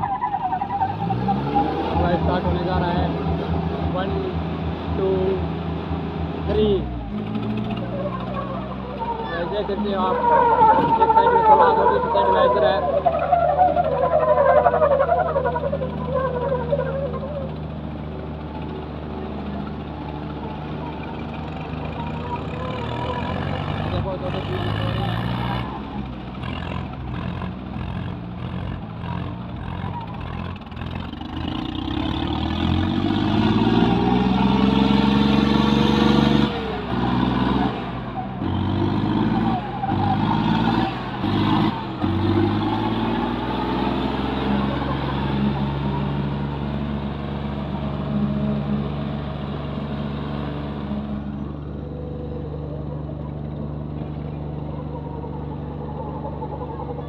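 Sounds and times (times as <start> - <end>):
tractor engines revving under load: 0.0 - 57.0.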